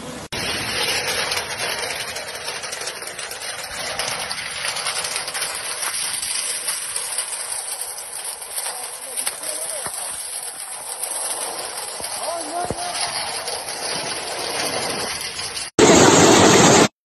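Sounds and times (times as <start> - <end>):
hail and heavy rain: 0.3 - 16.9.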